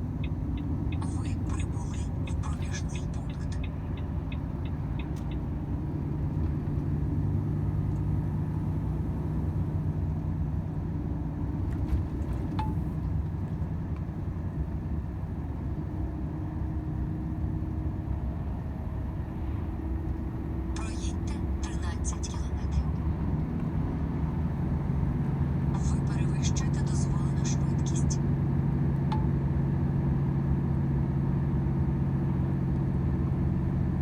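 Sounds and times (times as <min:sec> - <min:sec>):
road noise: 0:00.0 - 0:34.0
truck diesel engine drone: 0:00.0 - 0:34.0.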